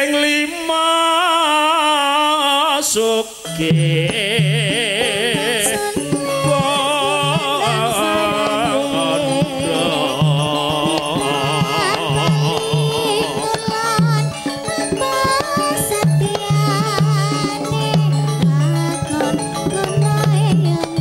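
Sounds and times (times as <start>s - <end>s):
band playing vibrato melody: 3.3s - 21.0s.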